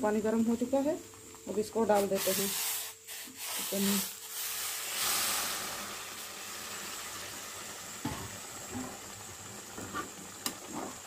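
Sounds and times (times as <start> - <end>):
water hissing in hot pan: 0.0 - 11.0.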